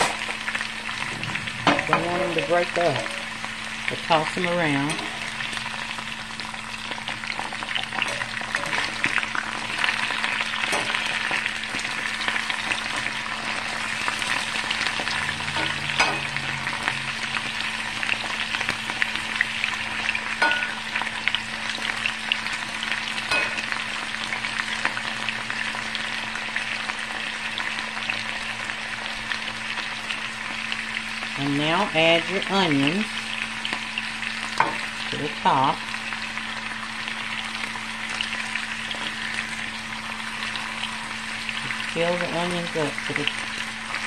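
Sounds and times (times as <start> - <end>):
potatoes sizzling in oil: 0.0 - 44.0.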